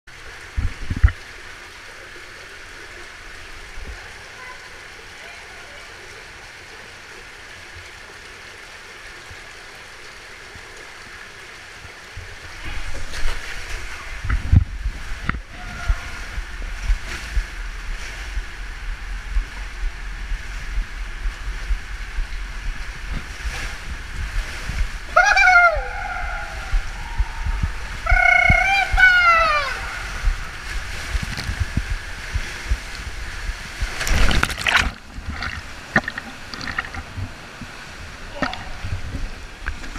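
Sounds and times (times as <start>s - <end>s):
running water hissing: 0.1s - 39.9s.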